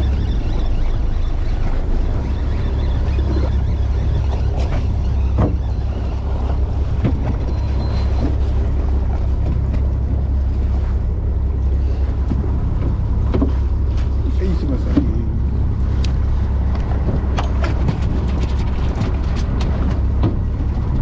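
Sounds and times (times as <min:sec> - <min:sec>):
boat engine low rumble: 0:00.0 - 0:21.0
wind buffeting microphone: 0:00.0 - 0:21.0.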